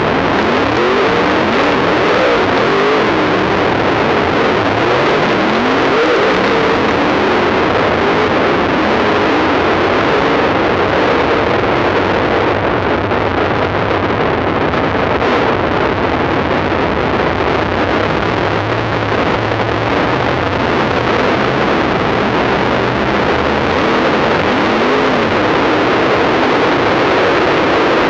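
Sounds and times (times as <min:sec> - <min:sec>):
race car engines roaring: 0:00.0 - 0:28.0.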